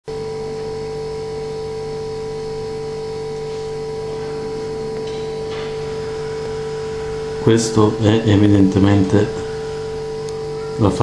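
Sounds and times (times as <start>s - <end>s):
steady electrical hum: 0.1s - 11.0s.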